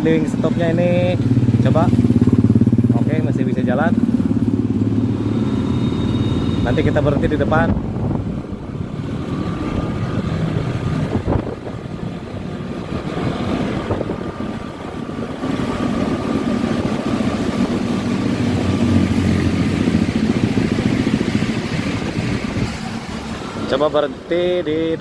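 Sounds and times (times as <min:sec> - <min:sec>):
scooter engine running: 0:00.0 - 0:23.7.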